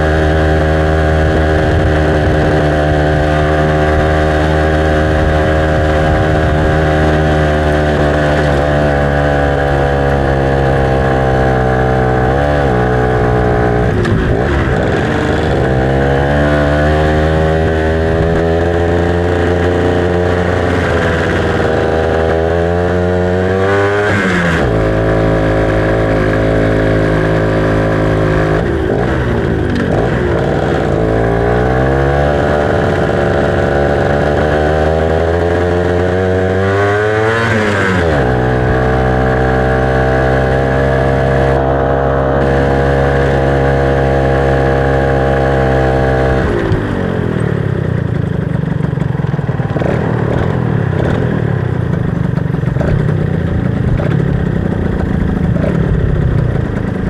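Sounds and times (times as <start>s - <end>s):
two-stroke motorcycle engine: 0.0s - 57.0s.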